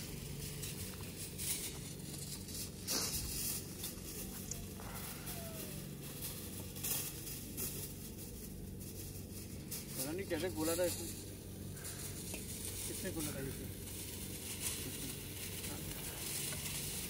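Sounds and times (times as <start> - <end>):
meat sizzling on a grill: 0.0 - 17.0
steady low hum: 0.0 - 17.0.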